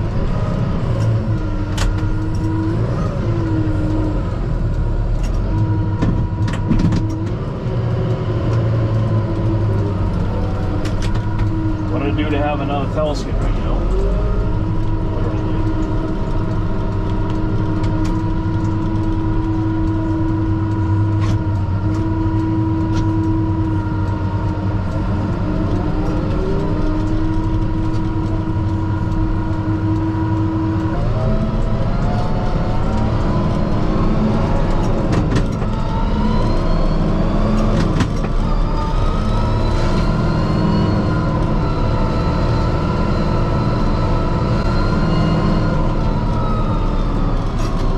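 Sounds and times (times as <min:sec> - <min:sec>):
tractor diesel engine revving: 0:00.0 - 0:47.9.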